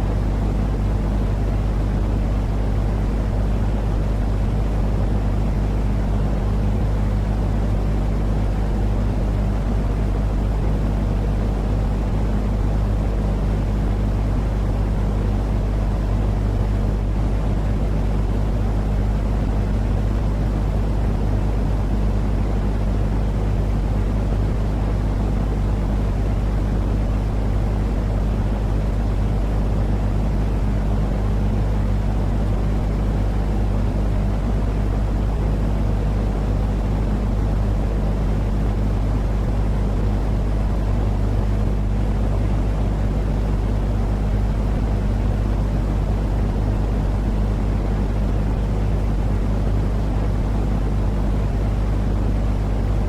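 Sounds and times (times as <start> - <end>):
constant hum: 0.0 - 53.0.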